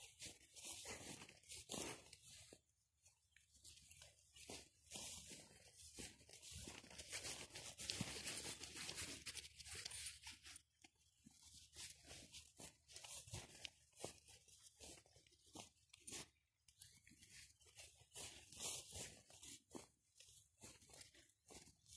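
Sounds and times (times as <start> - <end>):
footsteps brushing through grass: 0.0 - 10.2, 11.2 - 21.9.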